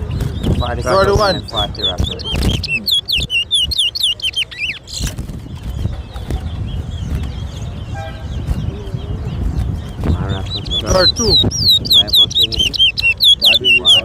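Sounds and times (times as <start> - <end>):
finch singing whistled notes: 0.0 - 14.0.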